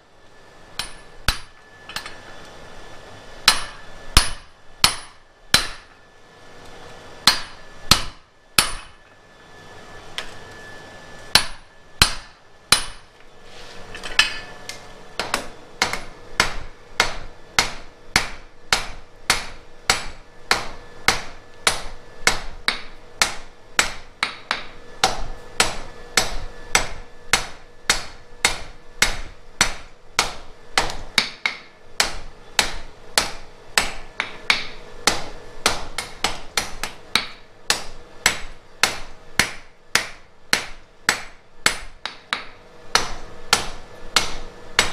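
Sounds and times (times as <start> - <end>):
hammer striking steel on anvil: 0.8 - 2.2, 3.4 - 6.0, 7.2 - 9.1, 11.3 - 13.1, 14.0 - 14.6, 15.2 - 44.9.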